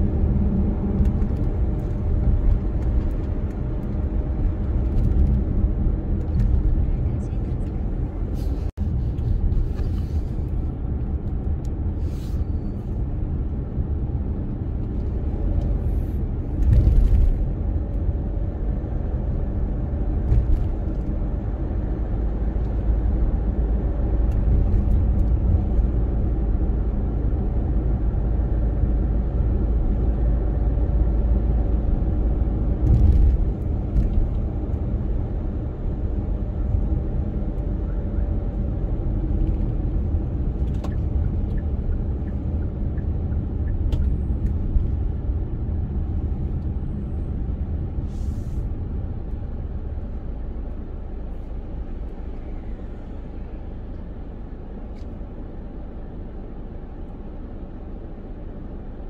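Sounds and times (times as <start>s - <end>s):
car driving low rumble: 0.0s - 59.0s.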